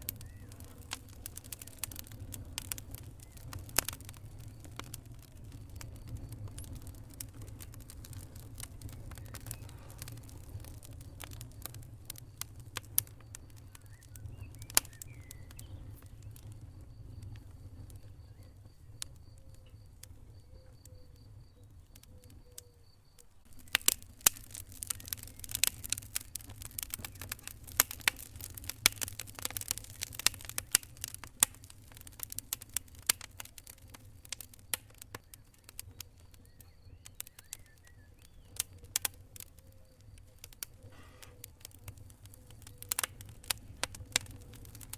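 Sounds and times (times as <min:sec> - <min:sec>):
low rumble of flame: 0:00.0 - 0:44.9
wood fire crackling and popping: 0:00.0 - 0:44.9.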